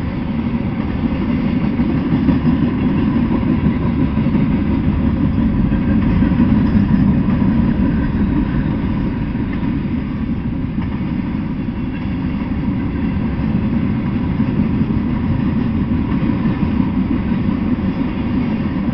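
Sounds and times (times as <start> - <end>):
freight train wheels rumbling on rails: 0.0 - 18.9.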